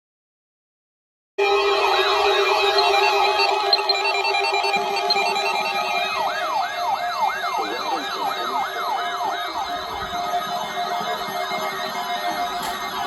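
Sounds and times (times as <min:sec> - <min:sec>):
electronic siren yelping: 0:01.4 - 0:13.0
steady tones: 0:01.4 - 0:13.0.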